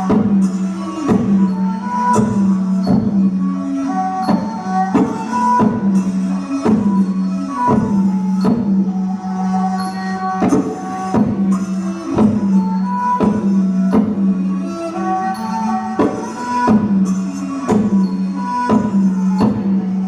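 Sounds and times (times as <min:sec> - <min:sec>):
percussion strikes: 0:00.0 - 0:20.0
struck melody: 0:00.0 - 0:20.0.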